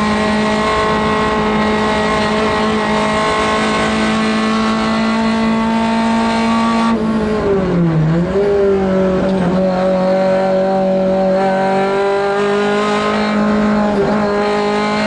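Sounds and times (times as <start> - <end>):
rally car engine: 0.0 - 15.0.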